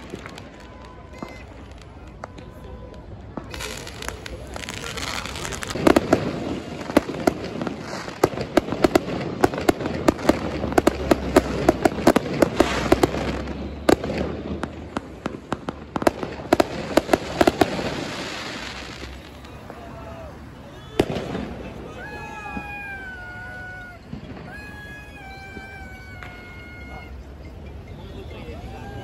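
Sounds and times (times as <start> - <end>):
fireworks bangs and crackles: 0.0 - 28.1.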